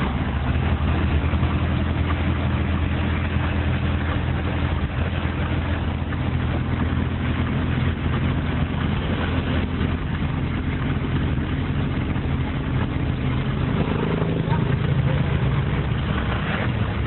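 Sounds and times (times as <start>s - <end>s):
road and wind noise: 0.0s - 17.0s
vehicle engine humming: 0.0s - 17.0s.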